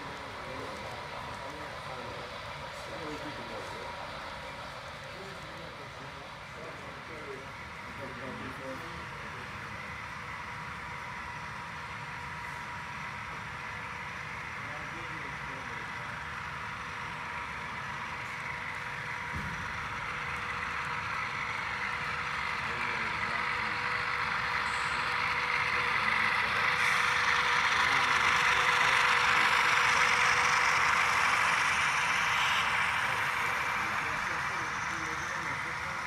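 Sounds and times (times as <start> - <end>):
model locomotive diesel engine sound: 0.0 - 36.0.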